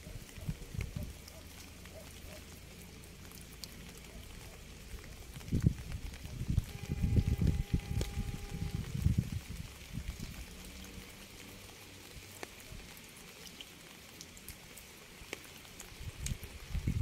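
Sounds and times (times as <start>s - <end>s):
light rain: 0.0s - 17.0s
raindrops ticking: 0.0s - 17.0s.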